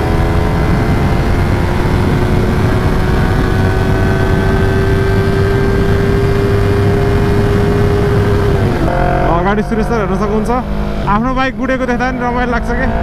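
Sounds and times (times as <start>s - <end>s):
motorcycle engine at high revs: 0.0s - 13.0s
wind and road noise: 0.0s - 13.0s.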